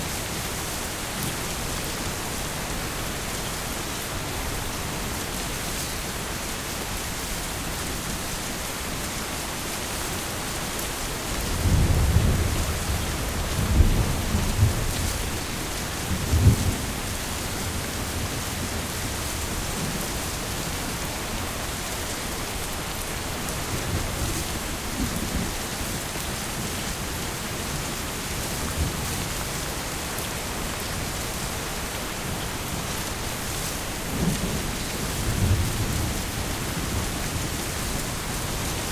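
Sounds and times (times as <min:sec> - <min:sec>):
heavy rain: 0:00.0 - 0:38.9
thunder rumbling: 0:06.9 - 0:38.9.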